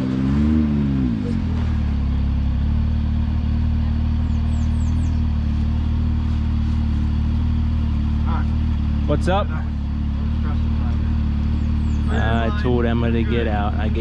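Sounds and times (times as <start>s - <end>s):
engine revving down and idling: 0.0s - 14.0s.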